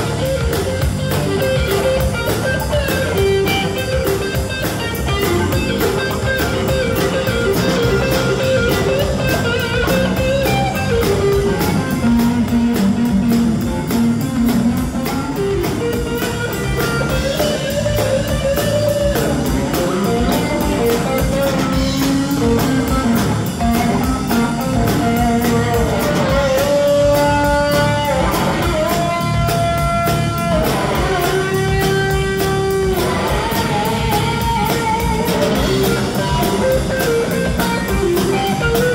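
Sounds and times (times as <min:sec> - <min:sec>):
drum kit: 0:00.0 - 0:38.9
electric bass: 0:00.0 - 0:38.9
electric guitar lines: 0:00.0 - 0:38.9.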